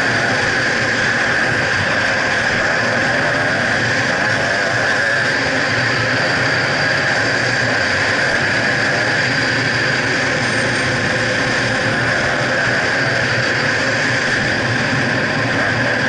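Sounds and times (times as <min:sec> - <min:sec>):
rushing noise: 0:00.0 - 0:16.0.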